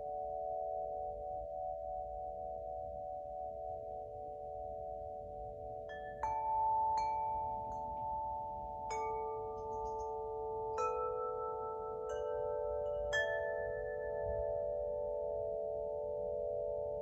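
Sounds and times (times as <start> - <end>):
wind chime ringing: 0.0 - 17.0.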